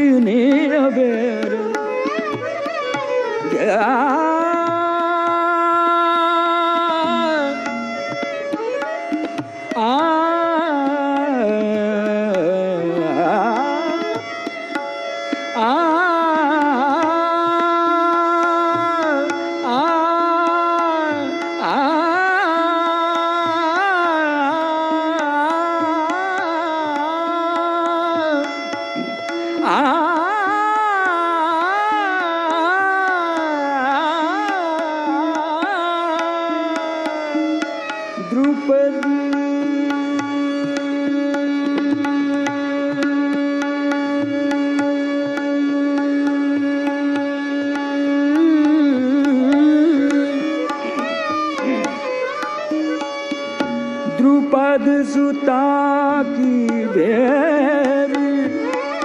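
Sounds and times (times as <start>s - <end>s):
classical vocal melody with slides: 0.0s - 59.0s
tabla playing steady rhythm: 0.0s - 59.0s.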